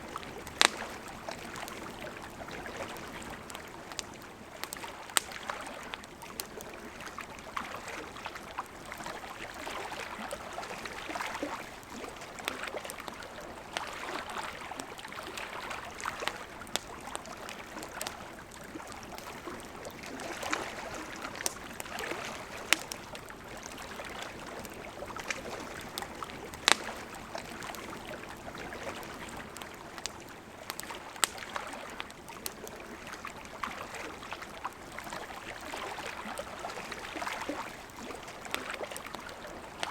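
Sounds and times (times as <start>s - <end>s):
campfire wood popping: 0.0s - 39.9s
rushing river water: 0.0s - 39.9s.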